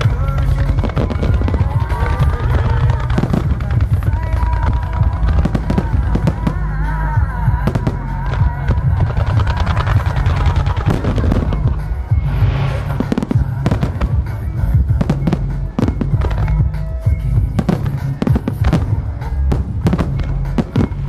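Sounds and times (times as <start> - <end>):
firework shells bursting: 0.0 - 7.0, 7.6 - 21.0
firework crackling hiss: 0.0 - 21.0.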